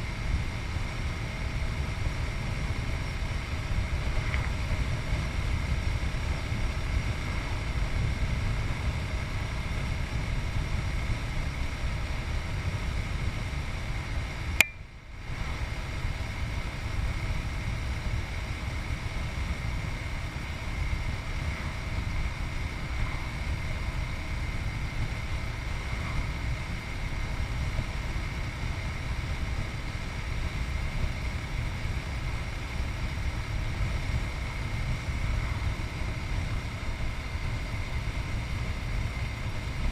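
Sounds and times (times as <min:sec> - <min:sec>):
wind rush and rumble: 0:00.0 - 0:39.9.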